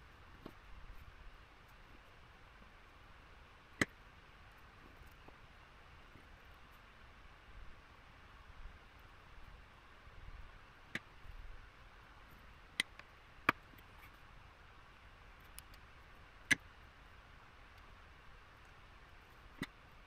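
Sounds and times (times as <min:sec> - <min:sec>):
faint room hiss: 0:00.0 - 0:20.0.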